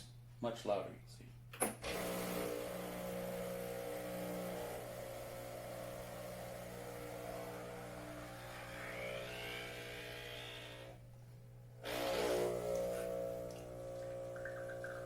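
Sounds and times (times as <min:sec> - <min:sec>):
espresso machine pump buzzing: 0:01.8 - 0:11.1, 0:11.7 - 0:15.0.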